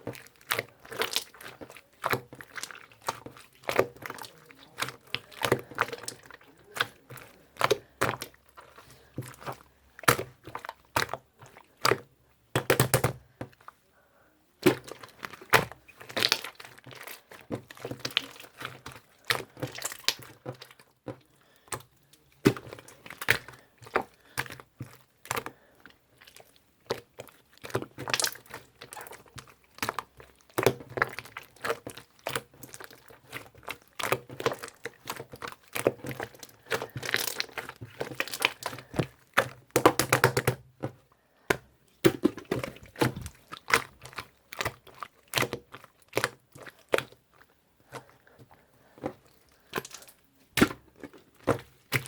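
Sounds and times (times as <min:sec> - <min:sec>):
crackling and crinkling: 0:00.0 - 0:52.0.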